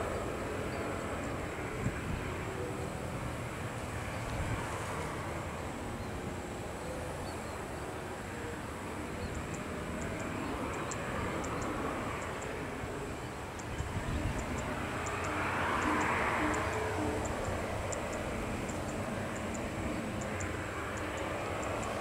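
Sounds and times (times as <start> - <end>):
jet engines of landing airliner: 0.0 - 22.0.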